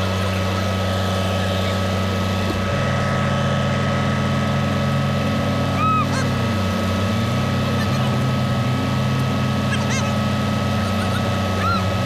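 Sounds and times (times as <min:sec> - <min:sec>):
heavy diesel equipment running: 0:00.0 - 0:12.0.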